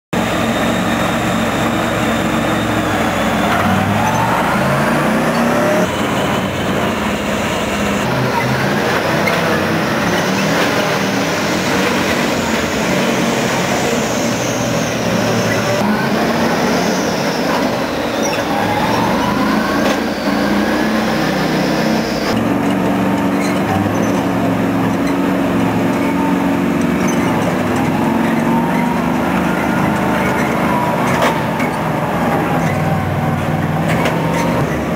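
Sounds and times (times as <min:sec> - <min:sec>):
tracked vehicle engine revving: 0:00.1 - 0:34.9
track rattle: 0:00.2 - 0:34.9.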